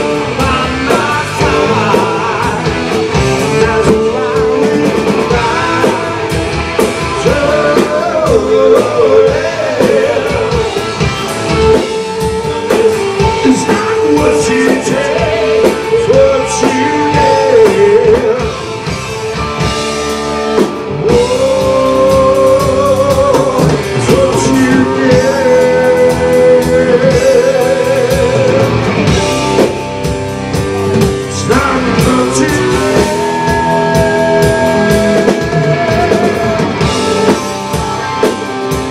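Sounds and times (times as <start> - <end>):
bending guitar lead line: 0.0 - 38.9
live rock band playing: 0.0 - 38.9.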